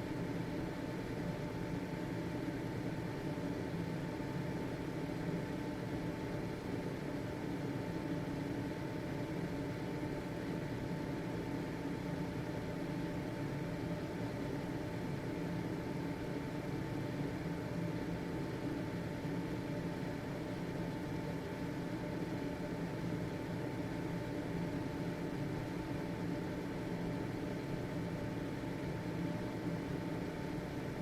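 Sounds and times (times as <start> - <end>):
ventilation fan whirring: 0.0 - 31.0.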